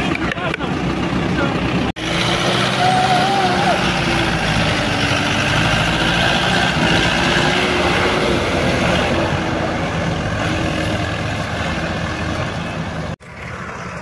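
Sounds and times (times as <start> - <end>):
diesel tractor engines droning: 0.0 - 14.0.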